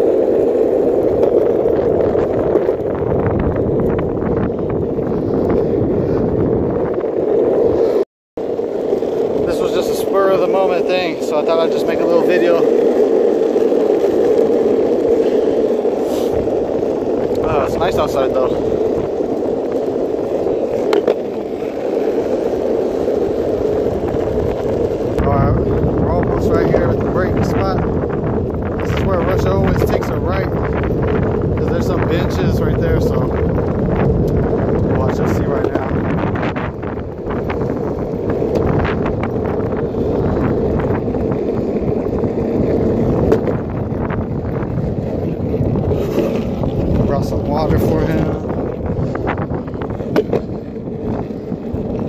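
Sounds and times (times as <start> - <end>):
longboard wheels rolling on asphalt: 0.0 - 52.0
wind buffeting microphone: 0.0 - 52.0.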